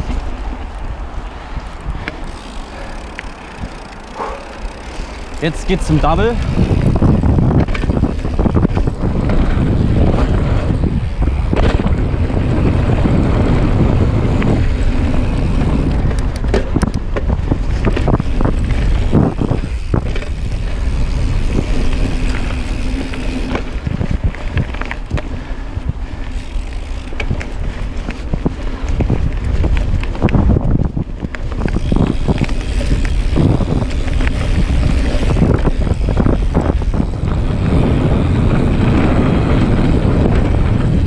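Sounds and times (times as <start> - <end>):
bike rattling over bumps: 0.0 - 41.0
tyres rumbling on dirt: 0.0 - 41.0
wind buffeting microphone: 0.0 - 41.0.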